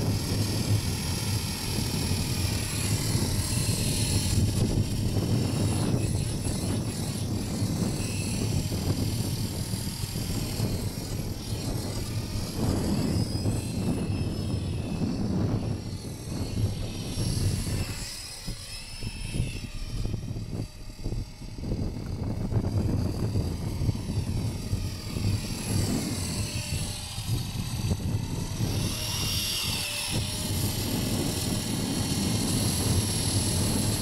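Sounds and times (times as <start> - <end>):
rc helicopter motor whine: 0.0 - 34.0
wind on microphone: 0.0 - 34.0.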